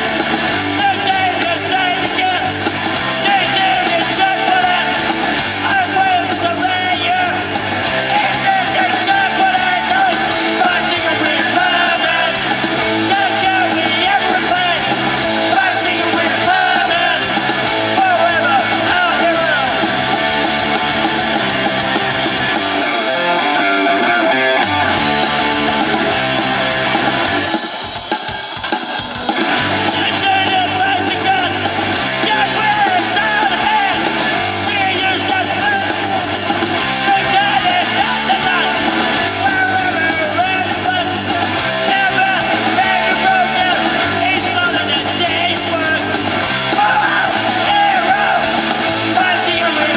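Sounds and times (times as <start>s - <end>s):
person singing and shouting: 0.0s - 21.1s, 22.6s - 49.9s
live rock band playing: 0.0s - 49.9s.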